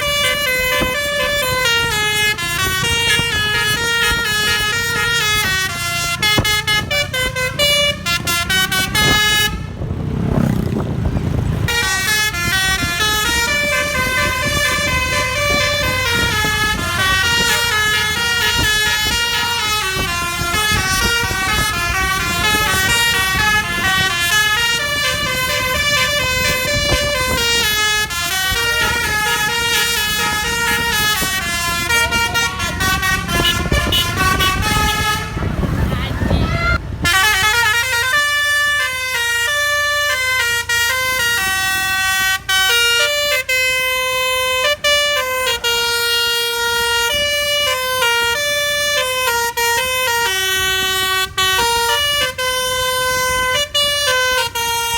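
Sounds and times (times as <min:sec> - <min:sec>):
multi-tone air horns melody: 0:00.0 - 0:09.8, 0:11.6 - 0:54.9.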